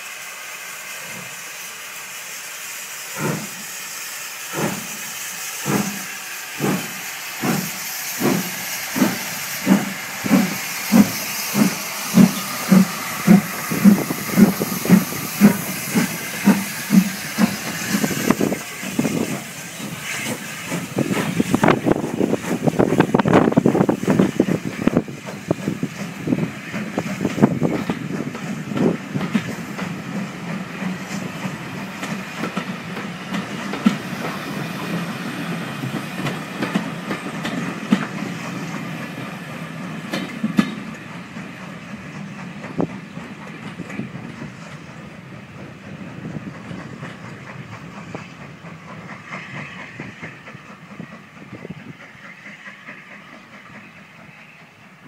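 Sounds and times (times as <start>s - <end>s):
steam train passing: 0.0s - 55.0s.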